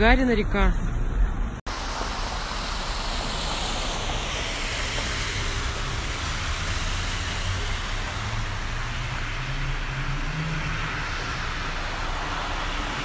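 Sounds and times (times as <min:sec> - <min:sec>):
rushing floodwater hiss: 0:01.7 - 0:13.0.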